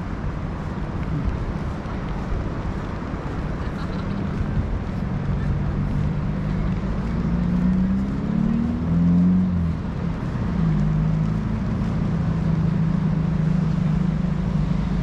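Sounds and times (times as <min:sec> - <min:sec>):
car engine hum: 0:00.0 - 0:15.0
tyre and wind noise: 0:00.0 - 0:15.0.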